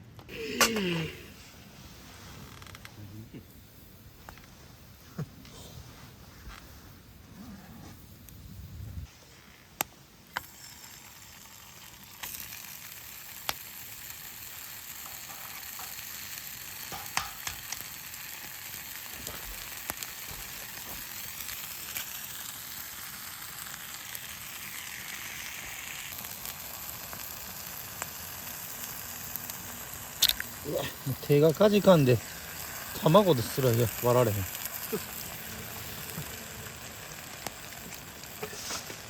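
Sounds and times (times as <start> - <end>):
food sizzling in a pan: 5.8 - 39.0.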